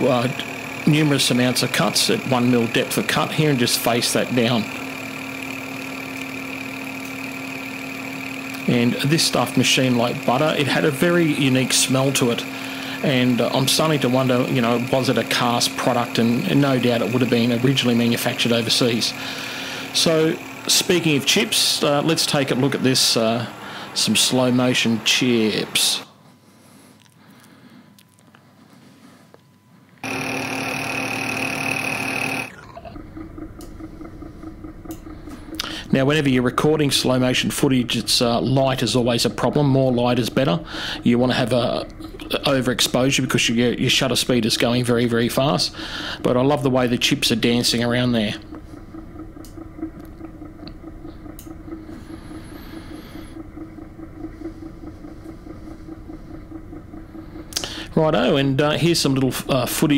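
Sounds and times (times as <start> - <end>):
metal lathe cutting: 0.0 - 26.1, 30.0 - 59.9
faint high whine: 0.0 - 59.9.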